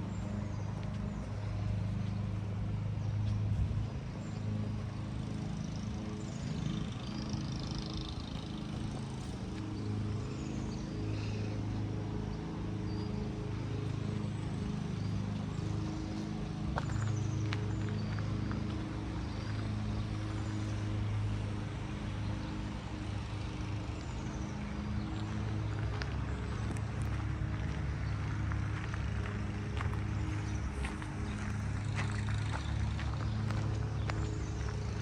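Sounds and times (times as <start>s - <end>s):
low hum with shifting pitches: 0.0s - 35.0s.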